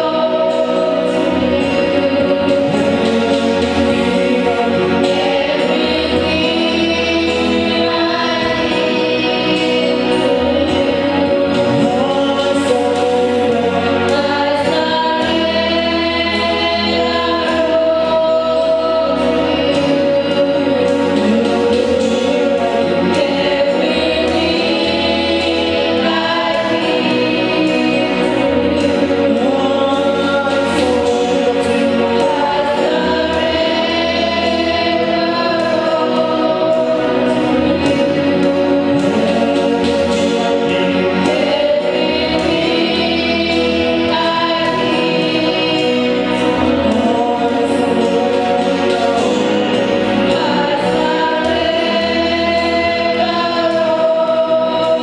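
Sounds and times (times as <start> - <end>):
gospel choir singing: 0.0 - 55.0
instrumental backing: 0.0 - 55.0.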